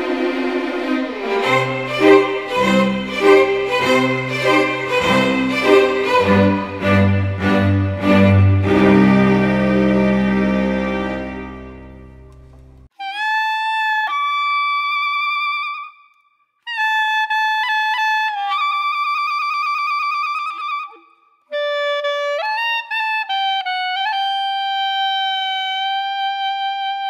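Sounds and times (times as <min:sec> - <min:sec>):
clarinet-like wind instrument melody: 0:00.0 - 0:15.9, 0:16.7 - 0:27.0.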